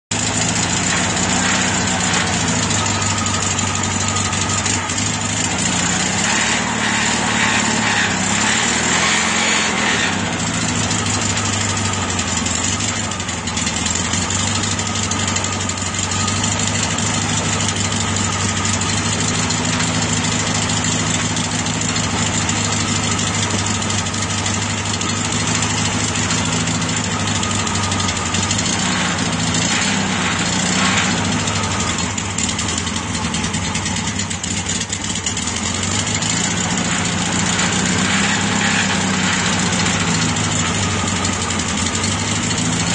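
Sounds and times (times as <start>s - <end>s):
car engine idling: 0.1s - 42.9s.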